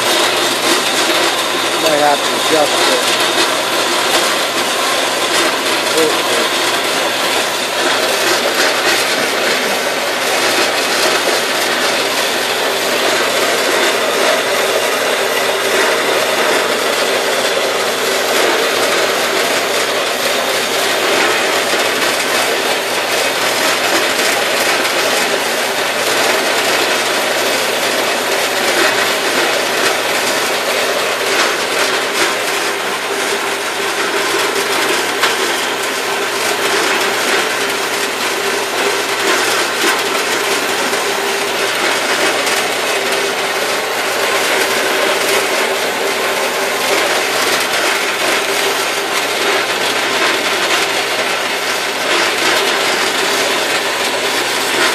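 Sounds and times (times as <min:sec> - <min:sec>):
bandsaw cutting metal: 0:00.0 - 0:54.9.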